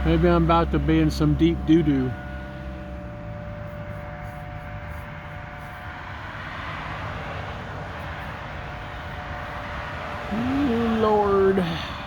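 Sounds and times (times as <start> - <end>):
distant two-note warning siren: 0.0 - 12.0.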